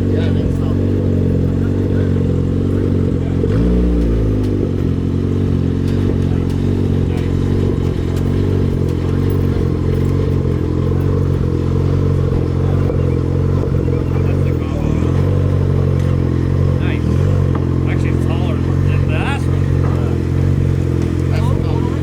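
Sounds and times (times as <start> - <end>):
car engine idling: 0.0 - 22.0
engine throttle blip: 0.0 - 22.0.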